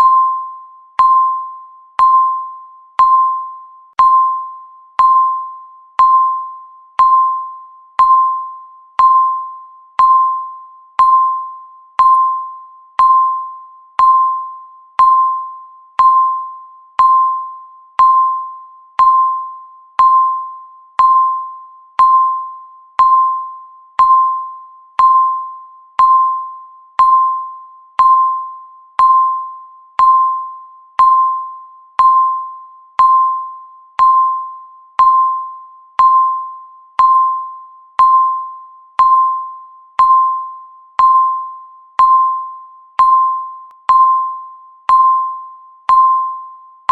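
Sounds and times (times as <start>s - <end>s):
electronic timer beeps: 0.0s - 46.9s.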